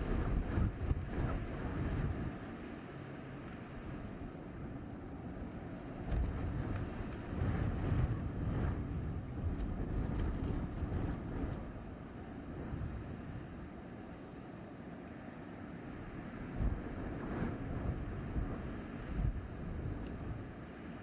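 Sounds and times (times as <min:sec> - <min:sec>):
gusty blizzard wind rumbling: 0:00.0 - 0:21.0.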